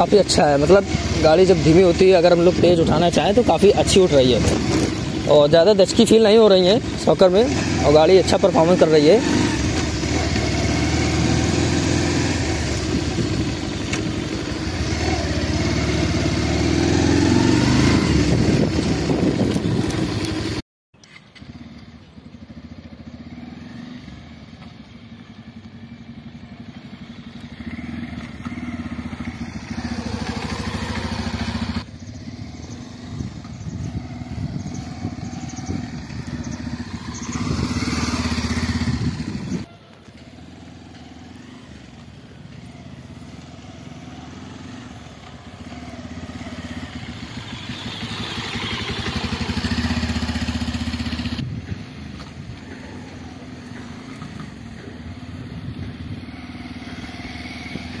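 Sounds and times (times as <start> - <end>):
motorcycle engine running: 0.0 - 20.6, 21.2 - 58.0
motorcycle riding by: 0.0 - 20.6, 21.2 - 58.0.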